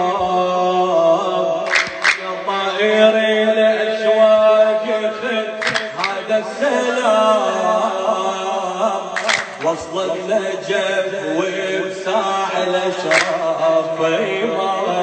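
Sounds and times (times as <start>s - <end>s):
man singing religious chant: 0.0s - 15.0s.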